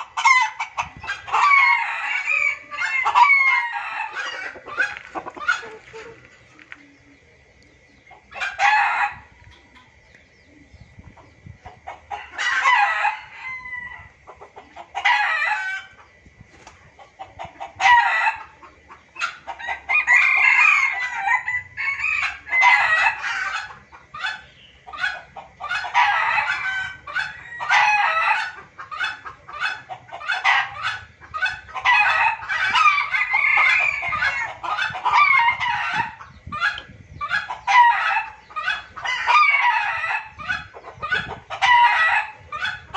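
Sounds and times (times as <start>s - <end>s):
junglefowl crowing and clucking: 0.0s - 42.9s.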